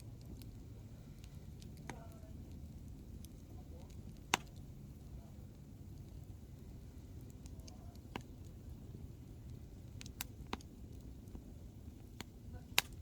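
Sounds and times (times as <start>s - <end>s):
campfire flames rumbling: 0.0s - 13.0s
logs popping and crackling: 0.0s - 13.0s.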